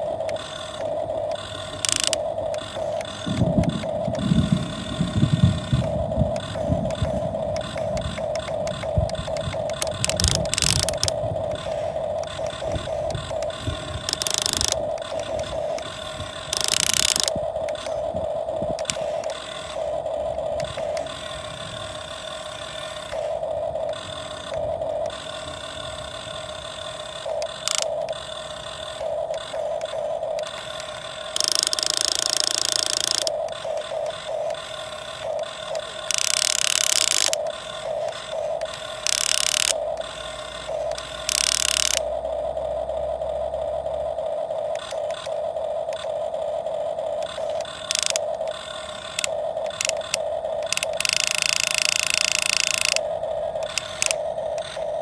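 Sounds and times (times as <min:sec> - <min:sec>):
hissing: 0:00.0 - 0:42.2, 0:43.9 - 0:55.0
model excavator motors whining: 0:00.0 - 0:55.0.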